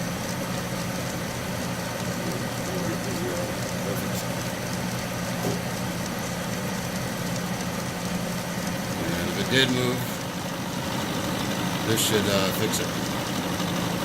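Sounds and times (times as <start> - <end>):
metal lathe humming: 0.6 - 14.0.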